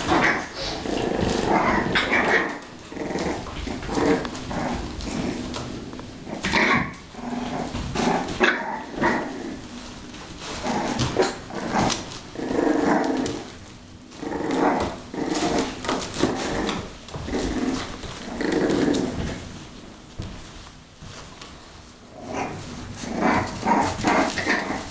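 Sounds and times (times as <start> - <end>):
puppies growling and barking: 0.0 - 20.5, 22.0 - 24.9.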